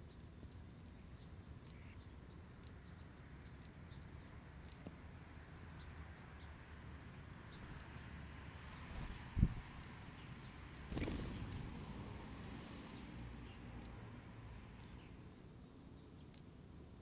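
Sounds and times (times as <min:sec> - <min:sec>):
birds chirping: 0:00.0 - 0:11.6, 0:12.6 - 0:17.0.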